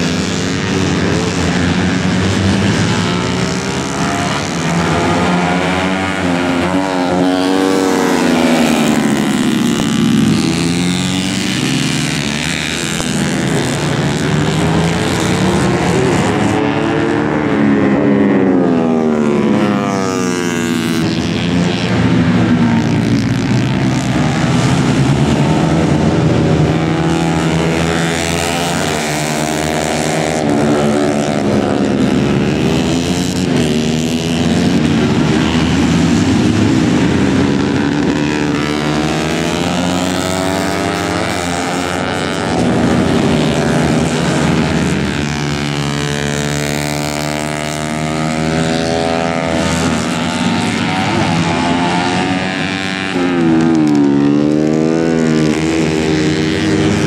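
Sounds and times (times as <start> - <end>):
racing motorcycle engines revving: 0.0 - 57.0.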